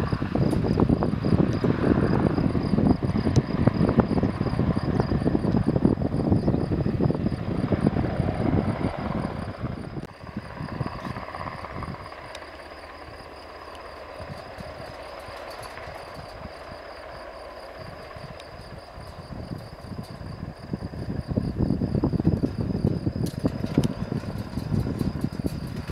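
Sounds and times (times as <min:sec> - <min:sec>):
helicopter rotor thudding: 0:00.0 - 0:25.9.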